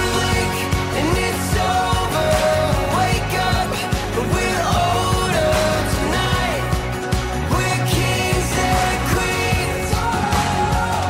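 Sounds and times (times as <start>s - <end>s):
person singing: 0.0s - 11.0s.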